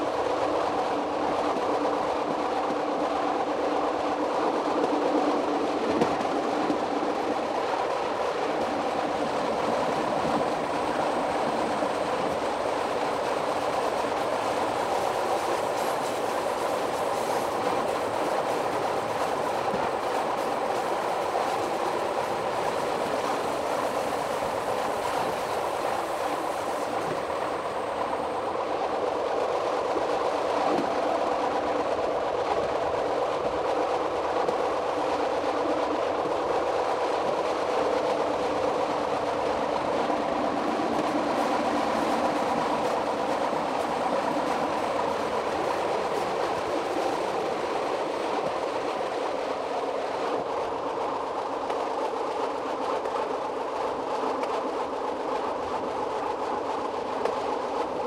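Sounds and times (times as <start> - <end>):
electric train rolling noise: 0.0 - 58.0.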